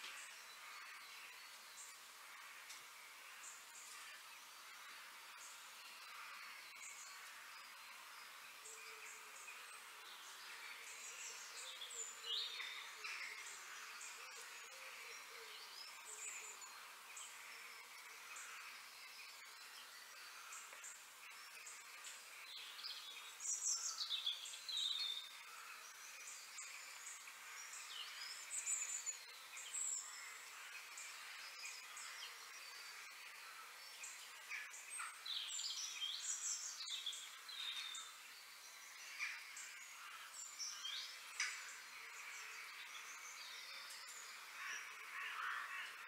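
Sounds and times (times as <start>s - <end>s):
steady high hiss: 0.0s - 46.0s
birds chirping and calling: 8.5s - 46.0s.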